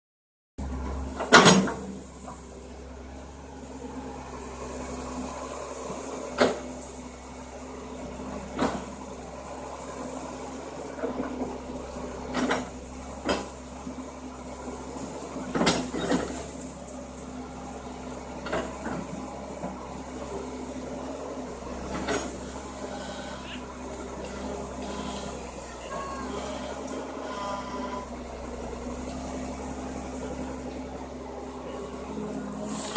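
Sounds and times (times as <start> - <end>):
excavator engine hum: 0.6 - 32.9.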